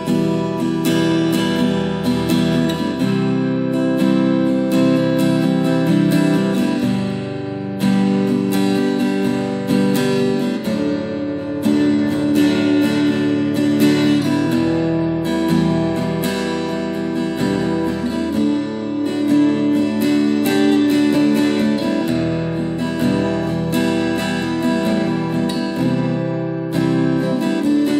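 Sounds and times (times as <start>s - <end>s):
acoustic guitar strummed in chords: 0.0s - 27.9s.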